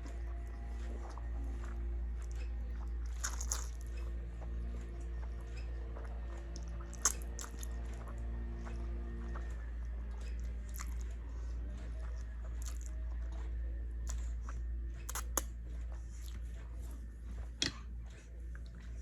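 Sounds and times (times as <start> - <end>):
low hum: 0.0 - 19.0
person chewing food: 0.0 - 19.0.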